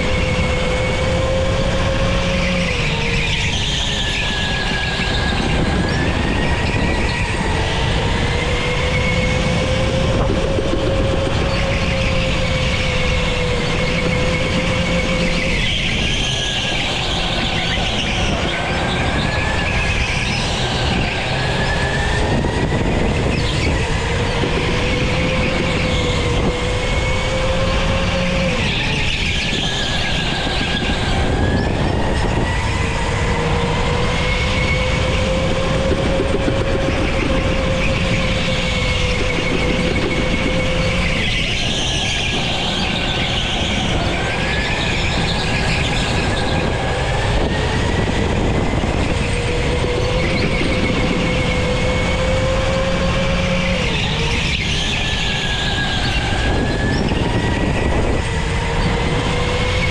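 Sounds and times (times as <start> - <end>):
electric motor whining: 0.0 - 59.9
wind and tyre noise: 0.0 - 59.9.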